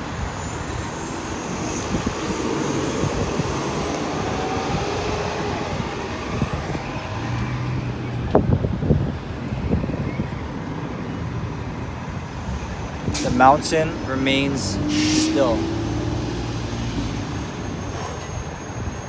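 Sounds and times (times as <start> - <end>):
gusty wind on microphone: 0.0 - 19.0
road traffic hum: 0.0 - 19.0.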